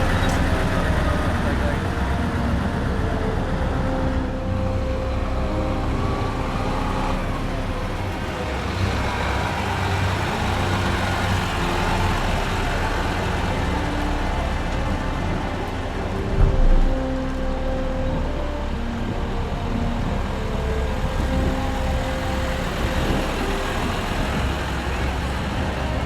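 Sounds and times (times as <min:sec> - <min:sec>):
military vehicle engines rumbling: 0:00.0 - 0:26.0.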